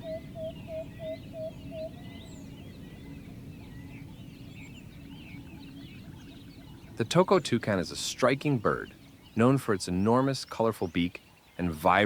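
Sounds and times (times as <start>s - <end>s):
birds chirping: 0.0s - 12.0s
repeated low bird call: 0.0s - 12.0s.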